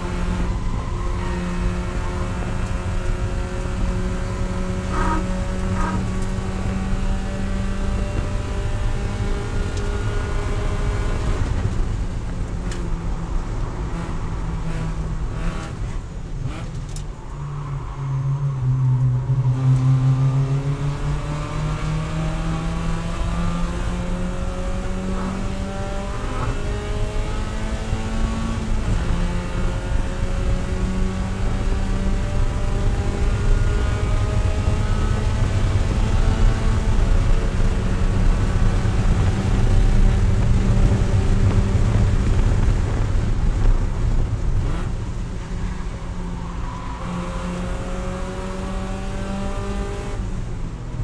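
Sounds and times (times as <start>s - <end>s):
race car engine revving: 0.0s - 12.0s, 19.5s - 50.5s.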